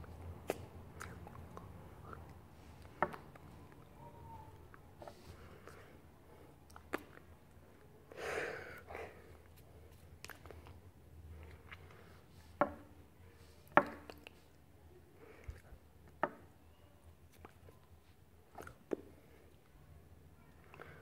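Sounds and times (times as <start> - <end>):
faint low room hum: 0.0 - 21.0.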